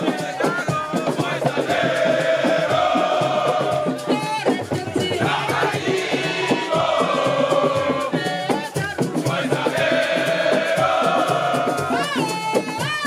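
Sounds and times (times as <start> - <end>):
chorus singing and chanting: 0.0 - 13.0.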